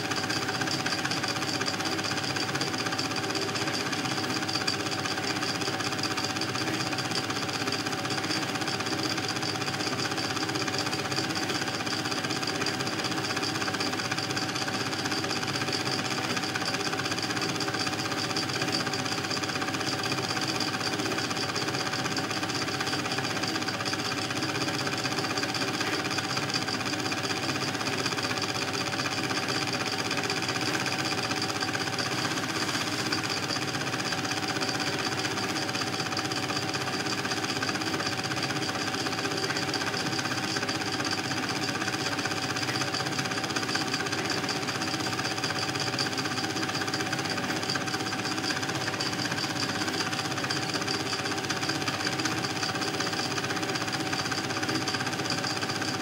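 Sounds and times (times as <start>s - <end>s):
film projector clattering: 0.0s - 56.0s.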